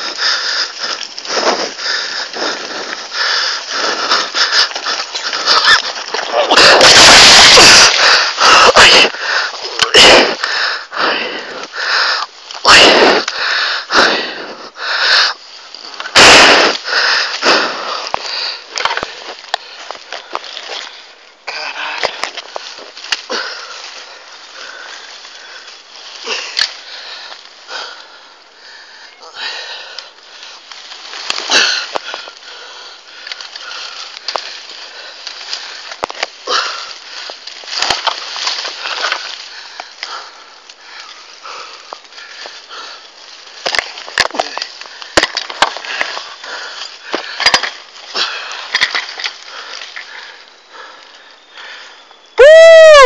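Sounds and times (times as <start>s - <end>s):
man breathing hard: 0.0s - 37.4s, 38.3s - 43.7s, 44.4s - 52.1s
bike rattling on rough trail: 0.0s - 52.1s.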